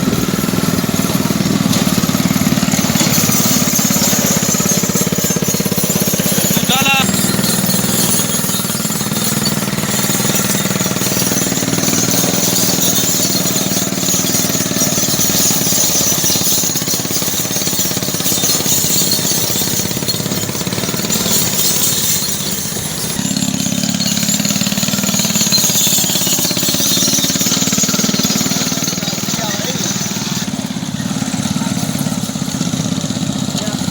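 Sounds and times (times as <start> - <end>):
tractor engine clattering: 0.0 - 33.9.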